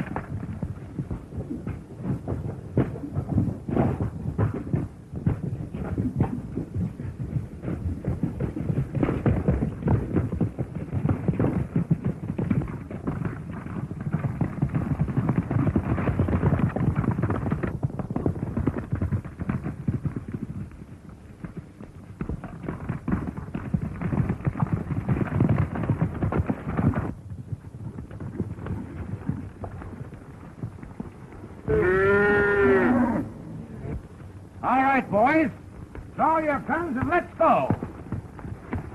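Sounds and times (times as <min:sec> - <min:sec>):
horses galloping: 0:00.0 - 0:38.9.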